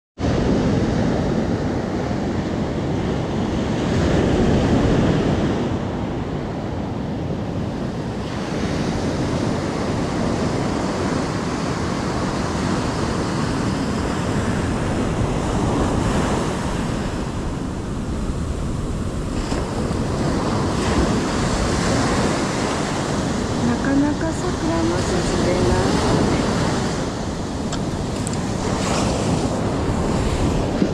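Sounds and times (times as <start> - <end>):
ocean surf breaking on beach: 0.2 - 30.9.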